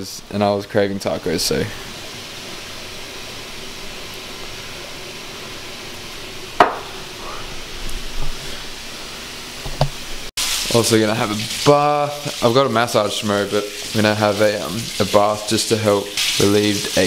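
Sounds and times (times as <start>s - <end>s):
chicken sizzling in a frying pan: 0.0s - 17.0s.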